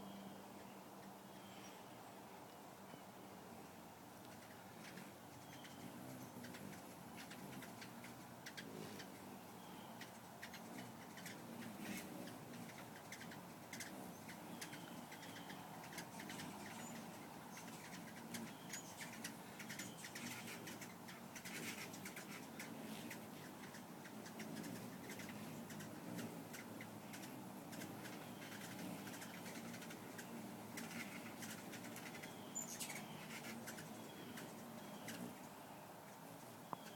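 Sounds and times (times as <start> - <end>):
hummingbirds chipping and twittering: 0.0 - 36.9.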